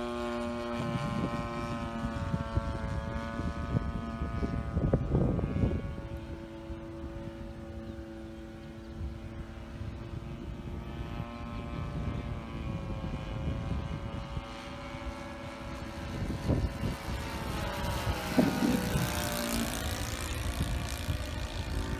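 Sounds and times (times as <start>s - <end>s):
model airplane propeller drone: 0.0s - 21.9s
wind rumble on microphone: 0.0s - 21.9s.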